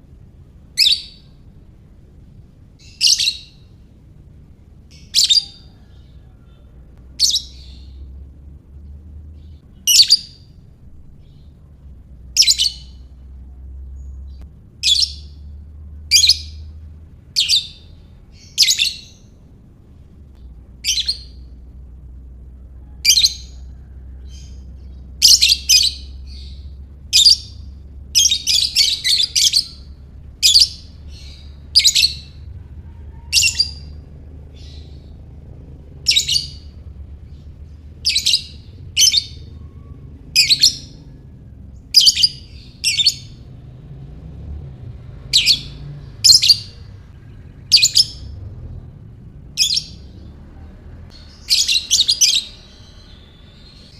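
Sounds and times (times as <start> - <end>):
faint low hum: 0.0 - 53.9
lovebird chirping: 0.6 - 1.6, 2.3 - 3.8, 4.8 - 8.3, 9.2 - 19.5, 20.4 - 22.2, 22.8 - 53.9.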